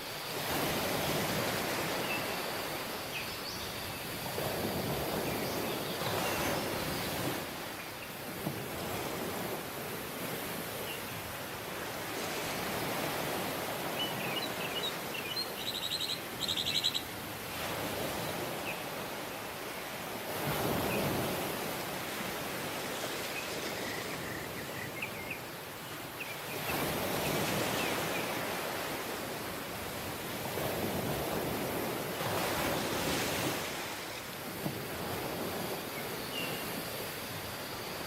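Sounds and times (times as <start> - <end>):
waves washing onto beach: 0.0 - 38.0.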